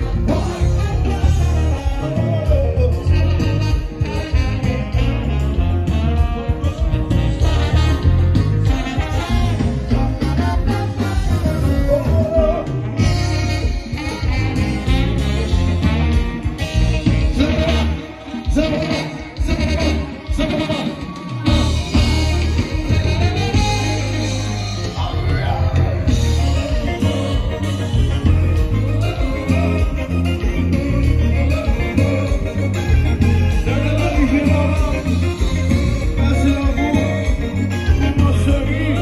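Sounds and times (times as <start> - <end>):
loud dance music: 0.0 - 39.0
person singing: 0.0 - 39.0.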